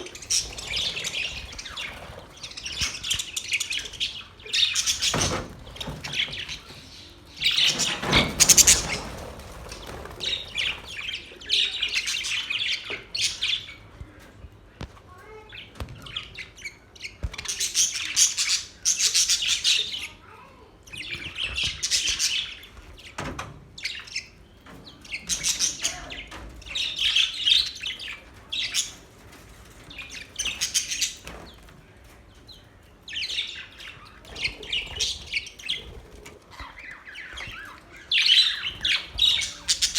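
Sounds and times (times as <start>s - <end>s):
budgerigars chirping and warbling: 0.0s - 14.4s, 15.3s - 39.9s.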